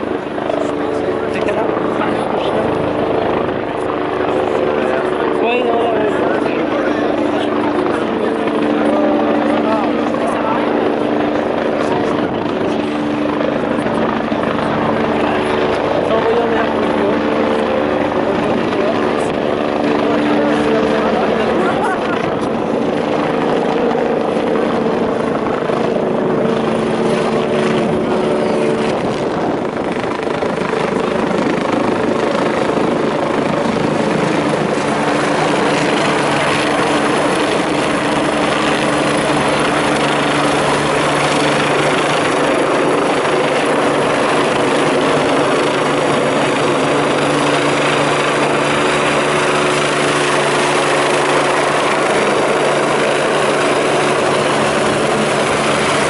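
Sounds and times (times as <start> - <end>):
helicopter turbine whine and rotor: 0.0 - 56.0.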